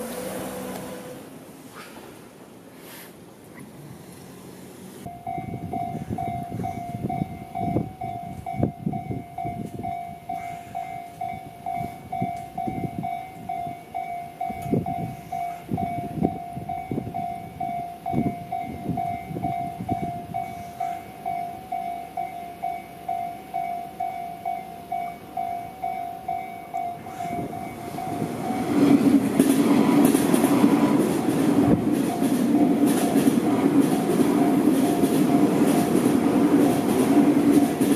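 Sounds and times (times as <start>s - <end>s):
electric train running over rails: 0.0s - 37.9s
level crossing alarm bell: 5.1s - 29.1s, 31.2s - 37.9s.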